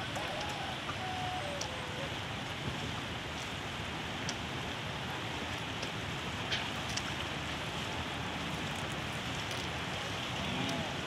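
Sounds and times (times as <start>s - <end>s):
flowing floodwater: 0.0s - 11.0s.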